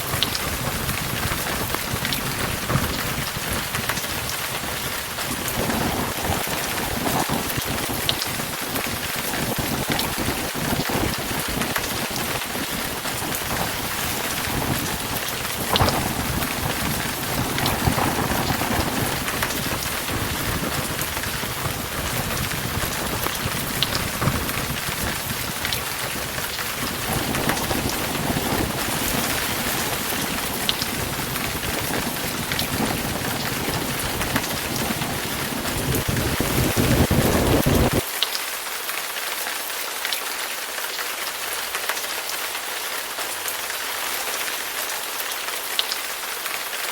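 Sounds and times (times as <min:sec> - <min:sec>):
low thunder rumble: 0:00.0 - 0:38.0
thunder crack: 0:00.0 - 0:38.0
heavy rain pouring: 0:00.0 - 0:46.9.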